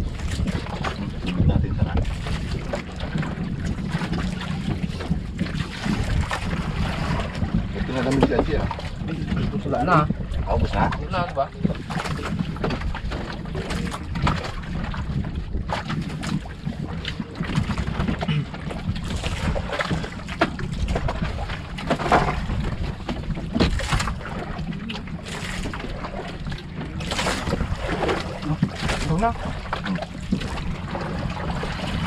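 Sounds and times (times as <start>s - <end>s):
water against boat hull: 0.0s - 32.0s
wind buffeting microphone: 0.0s - 32.0s.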